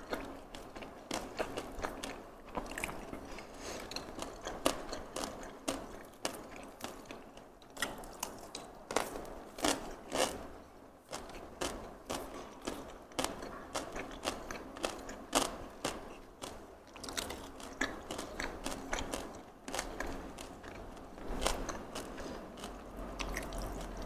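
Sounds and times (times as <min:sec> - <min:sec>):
crunchy chewing: 0:00.0 - 0:10.5, 0:11.1 - 0:24.0.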